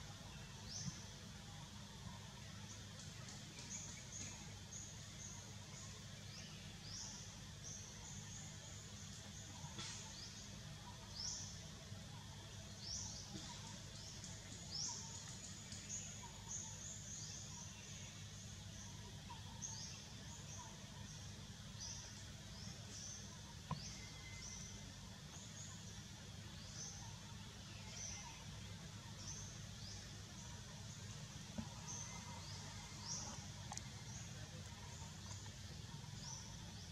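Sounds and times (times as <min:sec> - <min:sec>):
low steady hum: 0:00.0 - 0:36.9
birds chirping: 0:00.4 - 0:36.9.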